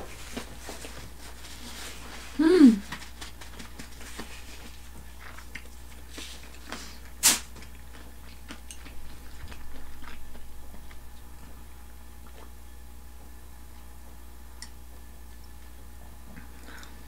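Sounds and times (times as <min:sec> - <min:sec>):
person chewing food: 0:03.1 - 0:17.0.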